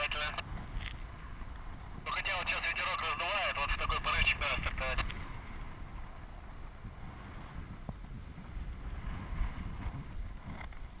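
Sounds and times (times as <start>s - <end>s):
wind rushing on microphone: 0.0s - 11.0s.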